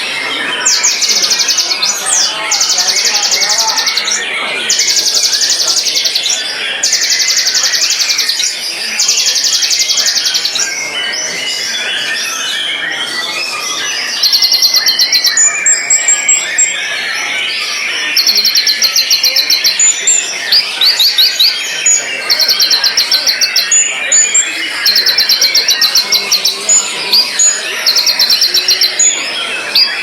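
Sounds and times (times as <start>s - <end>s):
bird singing rapid trills: 0.0s - 30.0s
whistled bird phrases: 0.0s - 30.0s.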